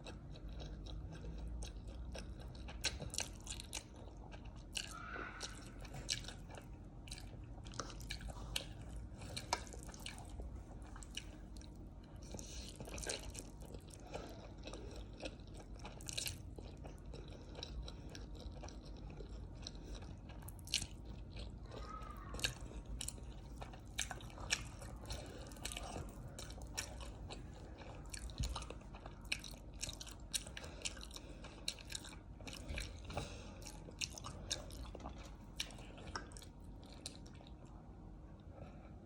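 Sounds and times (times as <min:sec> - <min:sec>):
person chewing crunchy food: 0:00.0 - 0:37.8.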